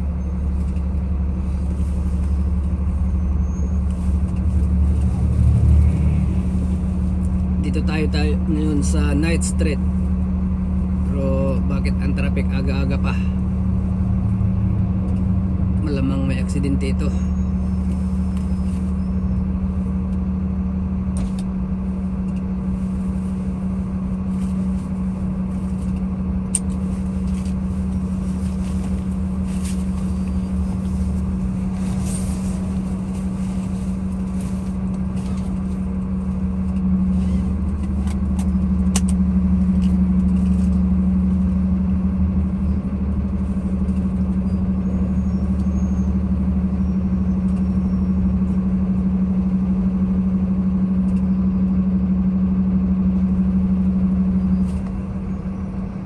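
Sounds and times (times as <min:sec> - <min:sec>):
car engine and traffic hum: 0:00.0 - 0:56.0.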